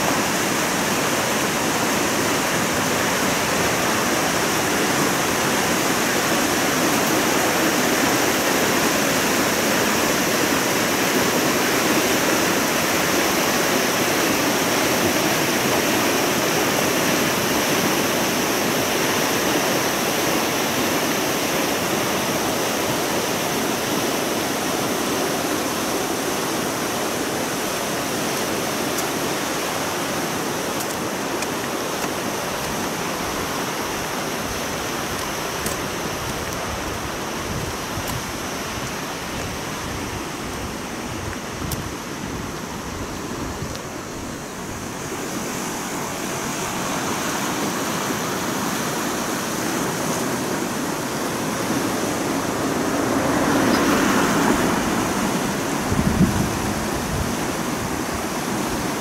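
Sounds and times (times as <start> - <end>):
river rushing: 0.0 - 59.0.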